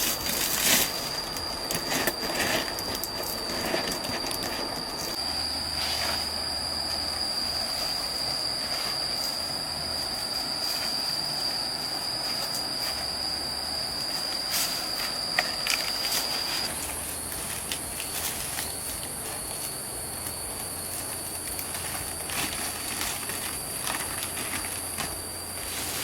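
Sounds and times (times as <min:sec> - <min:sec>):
insects shrilling: 0:00.0 - 0:26.0.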